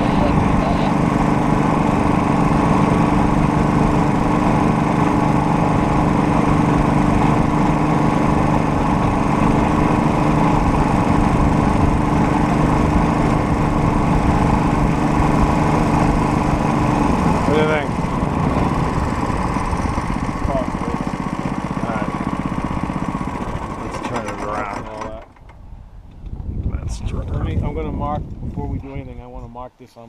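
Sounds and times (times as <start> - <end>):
small engine running: 0.0 - 25.7.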